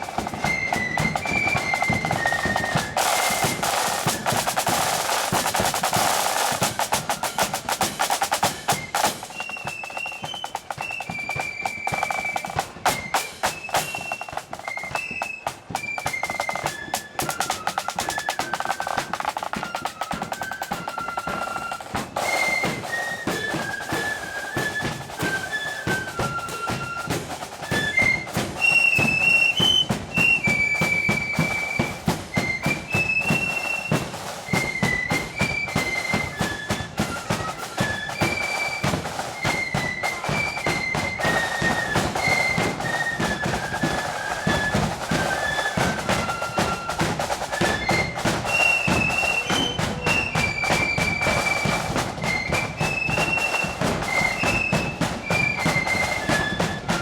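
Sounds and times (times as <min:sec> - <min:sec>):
flutes playing melody: 0:00.0 - 0:57.0
snare drum rolls: 0:00.0 - 0:57.0.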